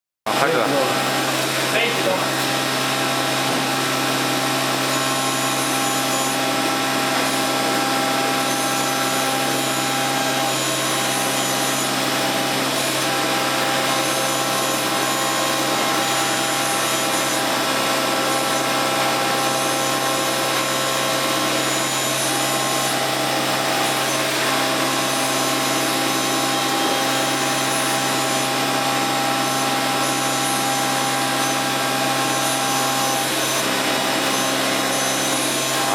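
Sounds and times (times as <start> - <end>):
milling machine cutting: 0.3 - 35.9.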